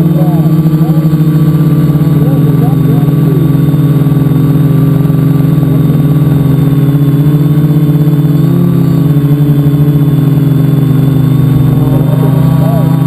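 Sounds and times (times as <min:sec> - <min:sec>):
drone propellers buzzing: 0:00.0 - 0:13.0.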